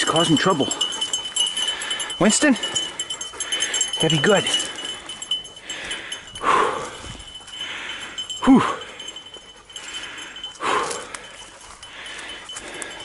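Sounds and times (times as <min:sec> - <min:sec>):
heavy panting breaths: 0:00.0 - 0:13.0.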